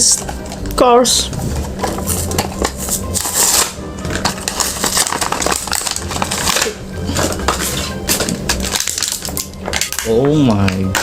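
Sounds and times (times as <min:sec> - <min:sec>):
background music: 0:00.0 - 0:11.0
packaging crackling and crinkling: 0:00.0 - 0:11.0.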